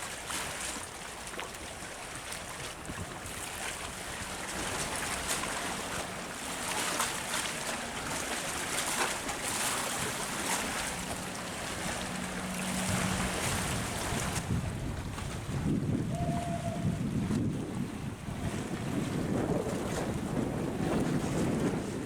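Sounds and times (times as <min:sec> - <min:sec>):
wind on microphone: 0:02.1 - 0:22.0
water washing: 0:02.7 - 0:21.6.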